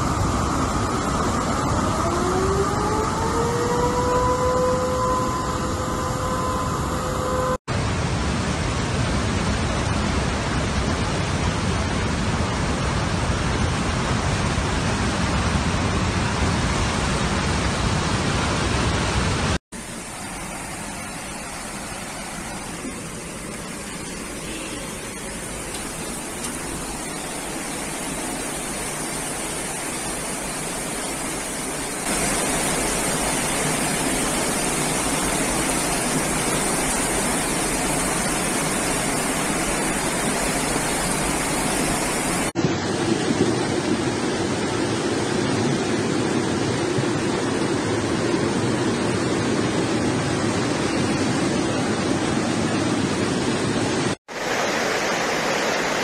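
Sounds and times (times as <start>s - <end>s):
floodwater rushing: 0.0s - 13.6s, 16.2s - 56.0s
heavy rain: 0.0s - 56.0s.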